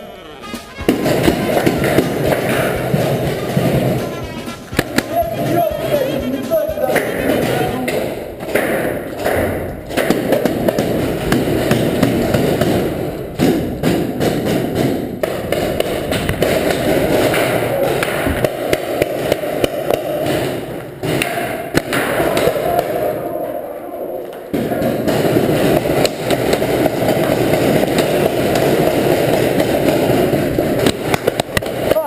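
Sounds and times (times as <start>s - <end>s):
steady dense din: 0.0s - 32.0s
paintball thuds and knocks: 0.6s - 5.3s, 6.9s - 23.1s, 24.2s - 32.0s.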